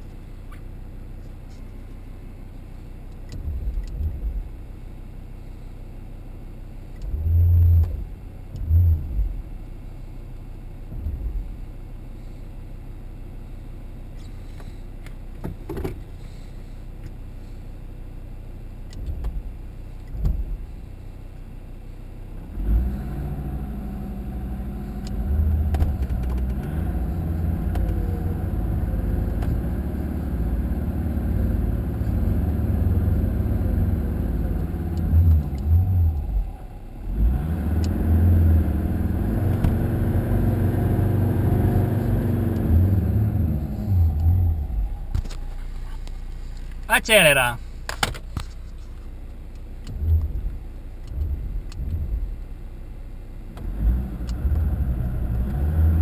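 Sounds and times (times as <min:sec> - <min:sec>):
off-road vehicle engine idling: 0:00.0 - 0:22.4, 0:23.5 - 0:53.6.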